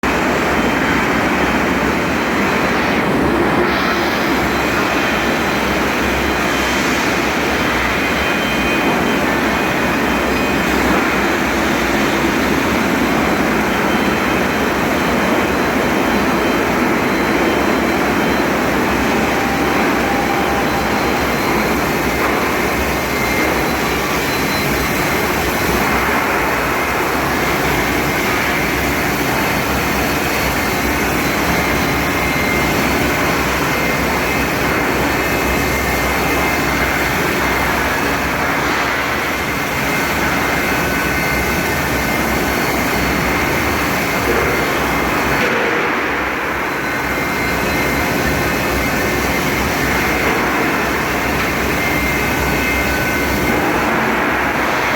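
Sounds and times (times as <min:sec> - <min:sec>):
faint high whine: 0:00.1 - 0:54.9
industrial machinery rushing: 0:00.1 - 0:54.9.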